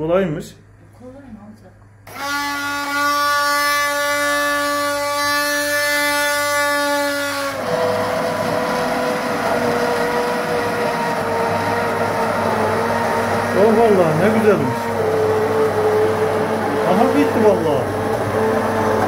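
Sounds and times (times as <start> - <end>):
immersion blender motor whine: 2.1 - 19.0.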